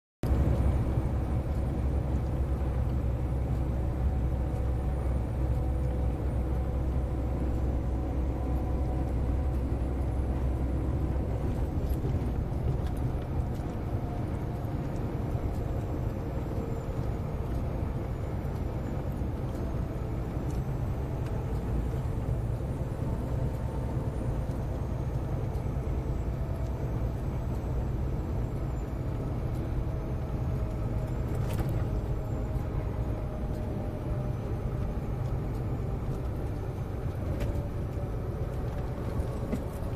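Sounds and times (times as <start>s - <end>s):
diesel truck engine rumbling: 0.2s - 39.9s.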